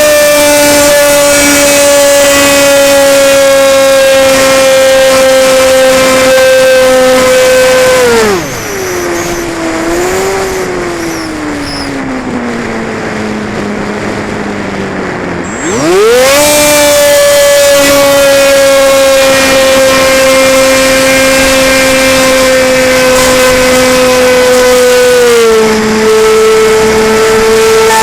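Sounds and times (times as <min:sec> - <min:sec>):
plane engine and propeller: 0:00.0 - 0:28.0.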